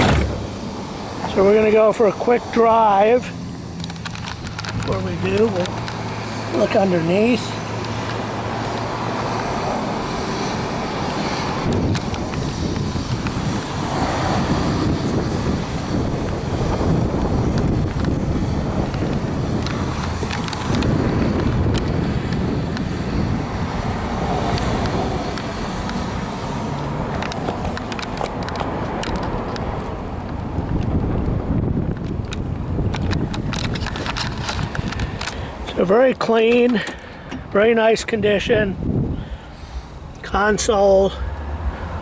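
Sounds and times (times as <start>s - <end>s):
road traffic rumble: 0.0s - 42.0s
wind buffeting microphone: 0.0s - 42.0s.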